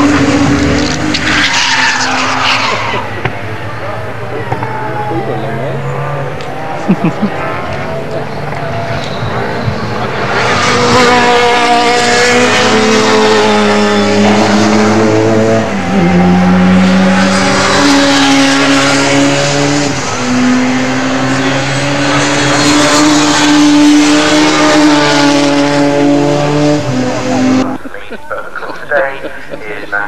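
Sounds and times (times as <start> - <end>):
race car engine with gear changes: 0.0 - 27.8.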